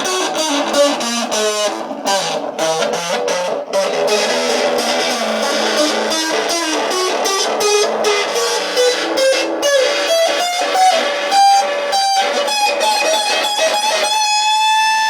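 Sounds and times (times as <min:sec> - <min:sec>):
guitar picking single notes: 0:00.0 - 0:15.0.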